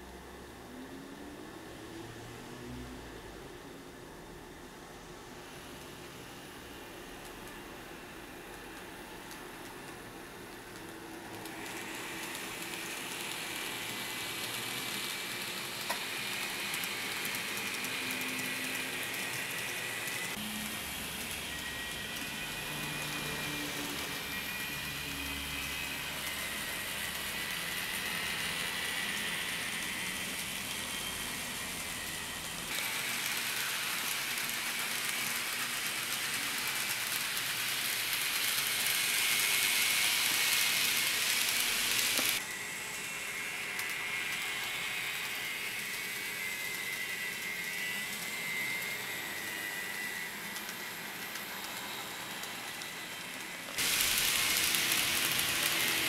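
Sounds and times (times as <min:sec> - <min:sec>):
model train motors whirring: 0:05.4 - 0:56.0.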